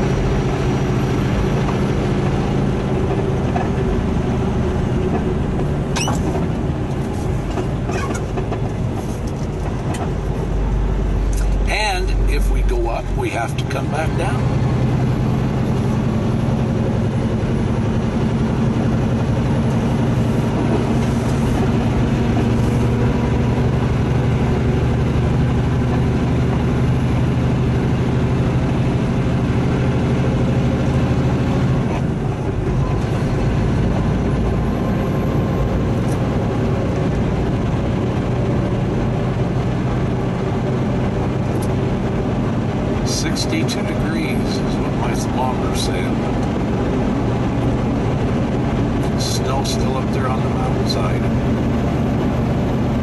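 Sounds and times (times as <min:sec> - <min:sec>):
diesel truck engine running: 0:00.0 - 0:53.0
road noise: 0:00.0 - 0:53.0.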